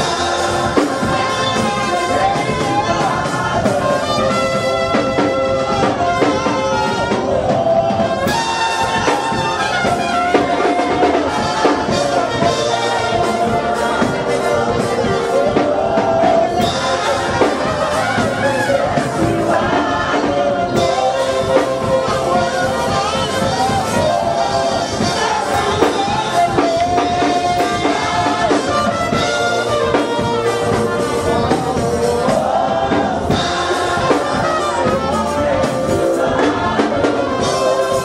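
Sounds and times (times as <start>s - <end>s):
church band with brass-like lead: 0.0s - 38.0s
congregation singing: 0.0s - 38.0s.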